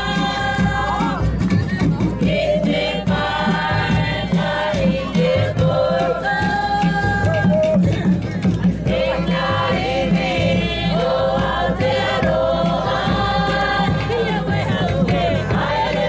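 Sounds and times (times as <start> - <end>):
group singing held notes: 0.0 - 1.3, 2.2 - 7.6, 8.8 - 16.0
low rhythmic beat: 0.0 - 16.0.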